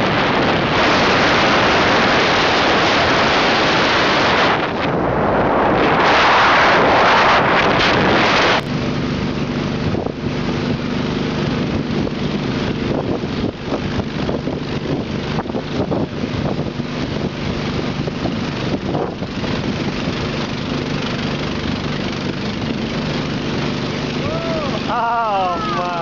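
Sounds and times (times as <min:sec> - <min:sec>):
boat engine running: 0:00.0 - 0:05.9, 0:07.7 - 0:26.0.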